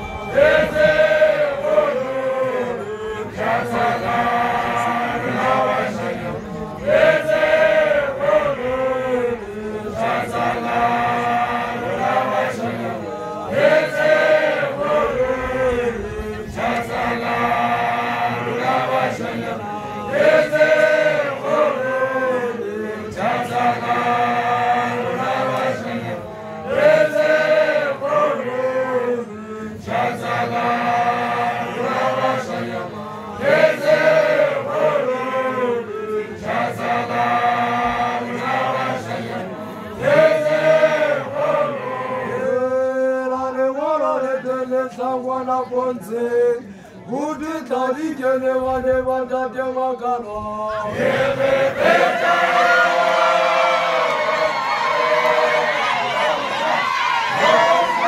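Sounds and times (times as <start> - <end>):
men chanting in chorus: 0.1 - 58.0.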